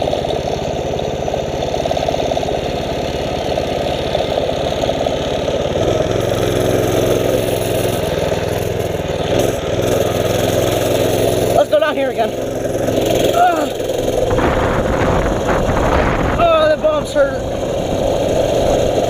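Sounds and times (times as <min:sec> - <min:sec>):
mini bike engine running: 0:00.0 - 0:19.0.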